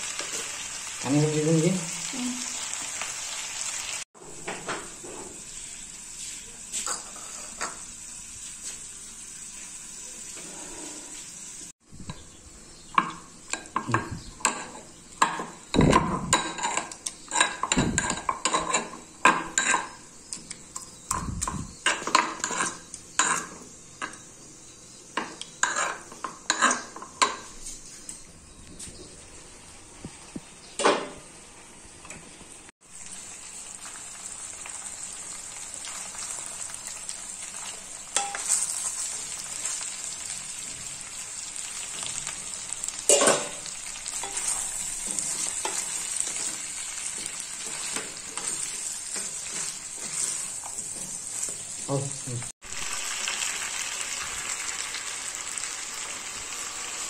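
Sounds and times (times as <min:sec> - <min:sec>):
food sizzling in a wok: 0:00.0 - 0:28.0, 0:29.2 - 0:57.0.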